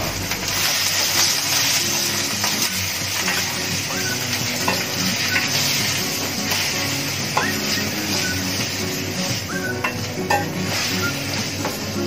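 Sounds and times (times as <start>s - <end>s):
food sizzling in a frying pan: 0.0s - 12.0s
soft background music: 0.0s - 12.0s
spatula scraping a pan: 0.5s - 12.0s.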